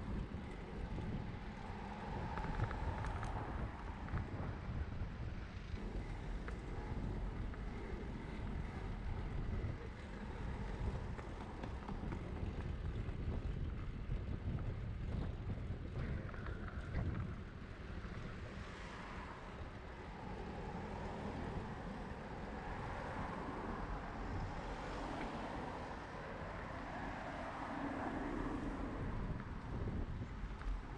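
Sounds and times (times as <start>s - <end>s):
street traffic: 0.0s - 30.9s
wind buffeting microphone: 0.0s - 30.9s.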